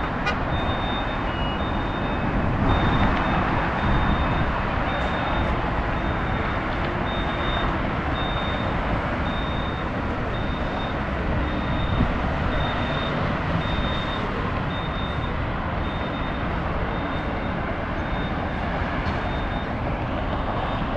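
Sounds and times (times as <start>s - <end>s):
bus engines and traffic rumble: 0.0s - 20.9s
reversing alarm beeps: 0.5s - 20.9s.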